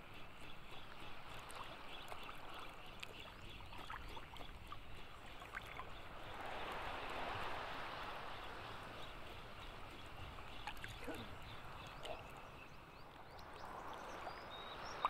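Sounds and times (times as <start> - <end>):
small sea waves lapping: 0.0 - 15.0
water drips: 0.0 - 15.0.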